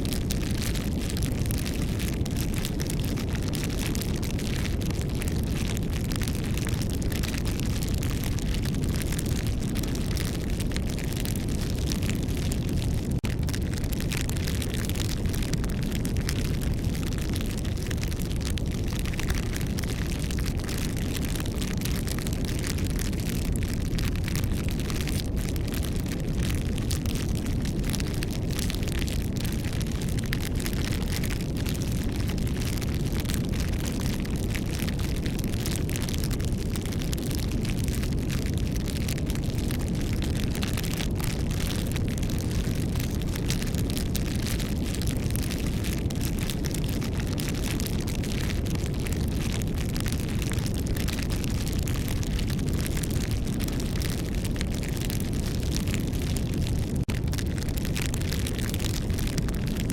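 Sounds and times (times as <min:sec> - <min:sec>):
burning wood crackling and popping: 0:00.0 - 0:59.9
campfire flames rushing: 0:00.0 - 0:59.9.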